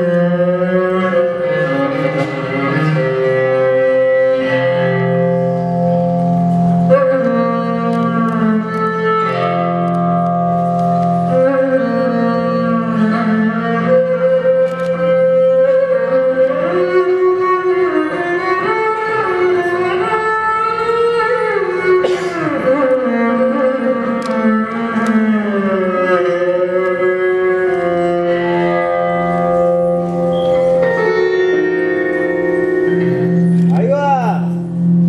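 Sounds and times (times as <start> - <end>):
sliding melody of held notes: 0.0 - 35.0.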